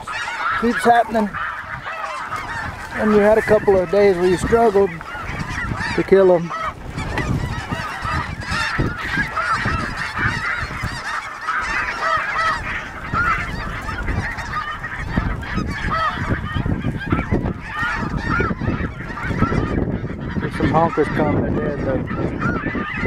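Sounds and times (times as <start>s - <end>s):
geese calling: 0.0s - 23.0s
wind rumbling on microphone: 0.0s - 23.0s.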